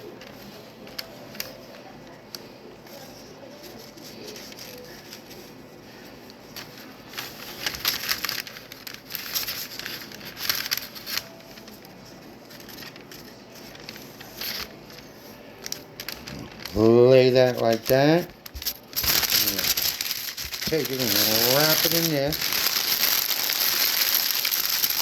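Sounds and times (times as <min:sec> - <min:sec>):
plastic wrap crinkling: 0:00.0 - 0:25.0.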